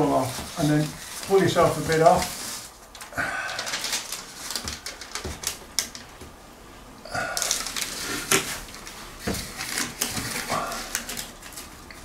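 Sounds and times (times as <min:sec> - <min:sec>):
foil tape crackling: 0:00.0 - 0:06.2, 0:07.2 - 0:12.0.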